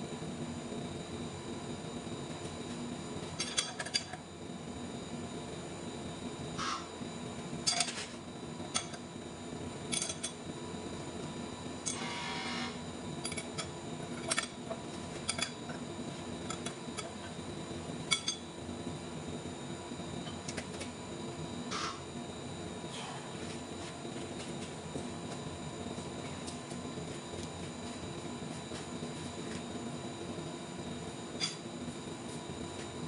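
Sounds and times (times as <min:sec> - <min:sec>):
workshop hum: 0:00.0 - 0:33.0.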